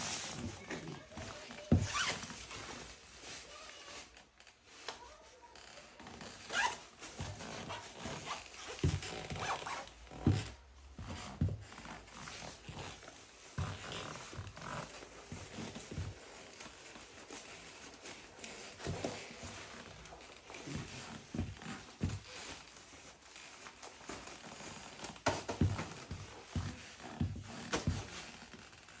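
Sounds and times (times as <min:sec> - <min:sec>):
jacket rustling and crinkling: 0:00.0 - 0:29.0.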